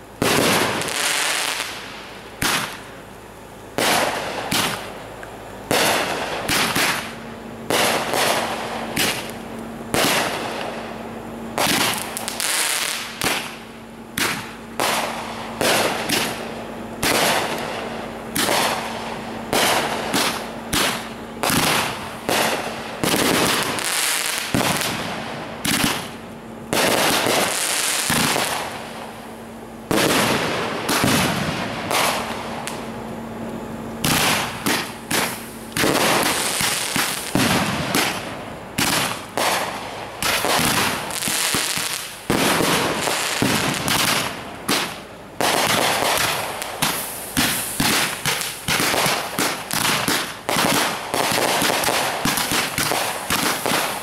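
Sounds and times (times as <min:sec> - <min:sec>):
faint steady hum: 0:00.0 - 0:54.0
fireworks banging: 0:00.0 - 0:54.0.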